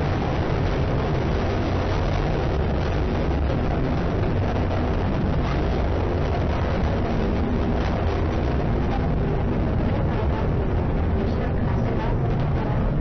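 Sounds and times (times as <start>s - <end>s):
rocket engine deep rumble: 0.0s - 13.0s.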